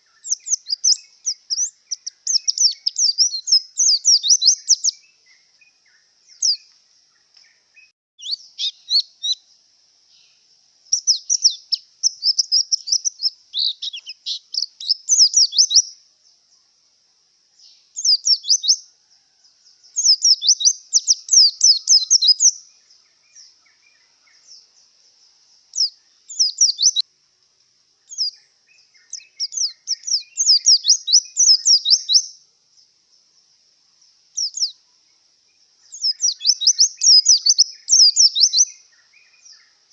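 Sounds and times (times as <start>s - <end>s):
bird twittering chirps: 0.0s - 16.7s, 17.5s - 27.0s, 28.0s - 33.4s, 34.0s - 39.9s.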